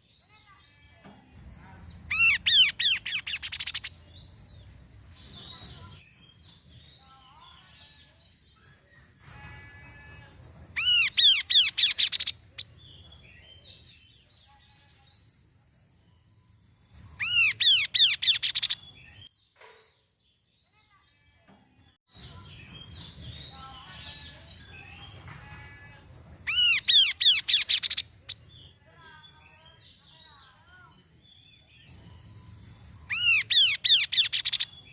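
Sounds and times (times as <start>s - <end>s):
soft bird chirps: 0.0s - 34.9s
songbird ringing phrases: 0.0s - 34.9s.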